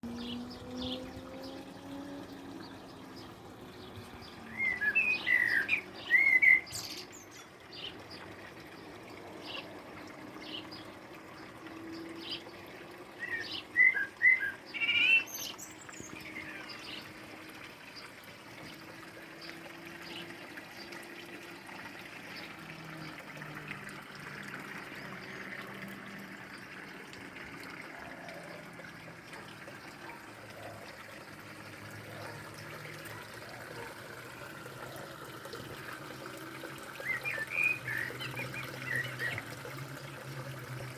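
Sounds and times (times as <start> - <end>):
songbirds chirping: 0.0 - 40.9
trickle of water: 0.0 - 40.9.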